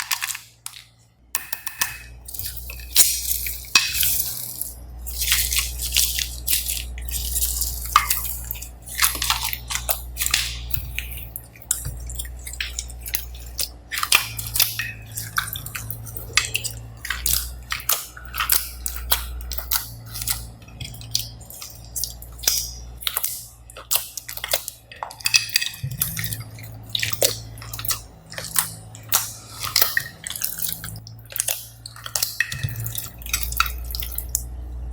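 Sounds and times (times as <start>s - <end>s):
slime squelching and popping: 0.0s - 34.6s
steady low hum: 0.0s - 34.9s.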